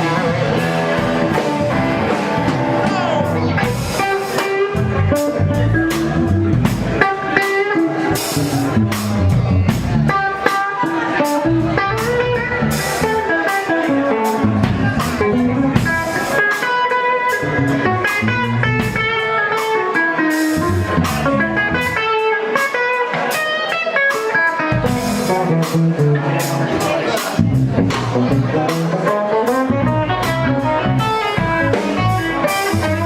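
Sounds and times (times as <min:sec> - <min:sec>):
bass line: 0:00.0 - 0:16.4, 0:17.3 - 0:22.2, 0:24.6 - 0:33.0
drum kit beat: 0:00.0 - 0:33.0
electric guitar lead lines: 0:00.0 - 0:33.0.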